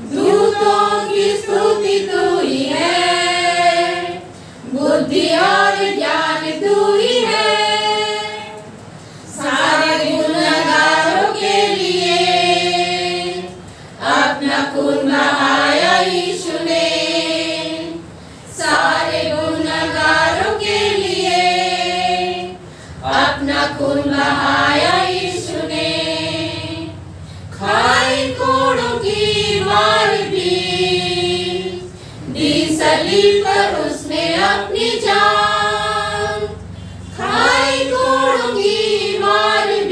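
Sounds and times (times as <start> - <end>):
women singing a hymn unaccompanied: 0.0 - 39.9.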